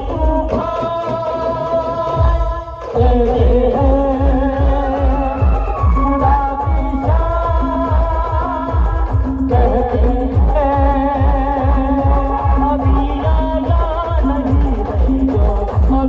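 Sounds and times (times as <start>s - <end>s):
heavy bass drum beat: 0.0s - 16.0s
live band music: 2.1s - 16.0s.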